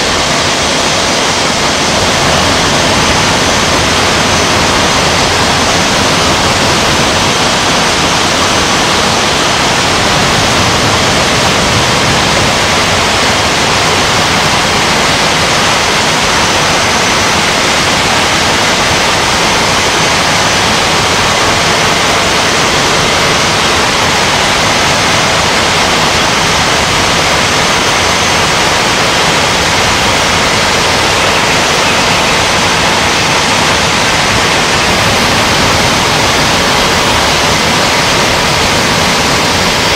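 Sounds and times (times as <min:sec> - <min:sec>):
loud rushing furnace noise: 0:00.0 - 0:39.9.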